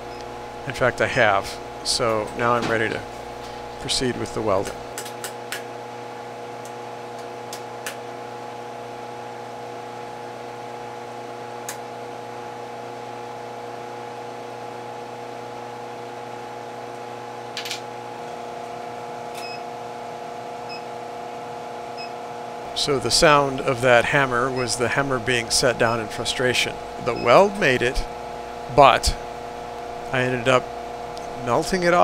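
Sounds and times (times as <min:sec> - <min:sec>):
induction heater humming: 0:00.0 - 0:32.0.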